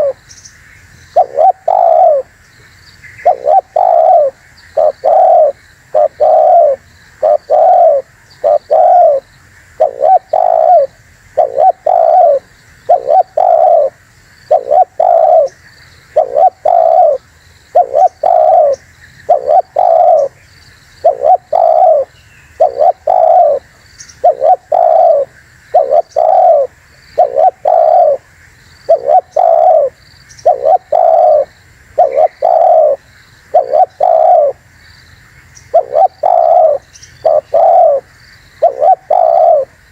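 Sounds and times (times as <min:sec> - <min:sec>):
dove cooing: 0:00.0 - 0:00.2, 0:01.1 - 0:02.3, 0:03.2 - 0:20.4, 0:21.0 - 0:28.3, 0:28.9 - 0:34.7, 0:35.7 - 0:39.9.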